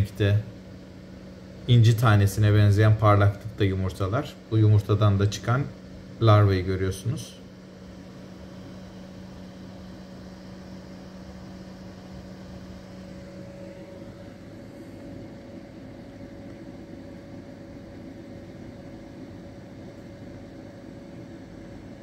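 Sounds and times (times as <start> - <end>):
machine hum with hiss: 0.0 - 22.0
low hum tone: 2.9 - 22.0.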